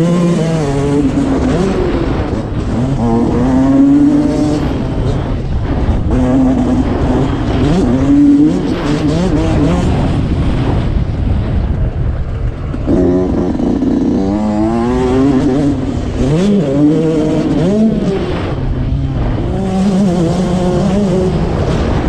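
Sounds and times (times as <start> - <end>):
dirt bike engine revving: 0.0 - 11.2, 12.2 - 22.0
background engine rumble: 0.0 - 22.0.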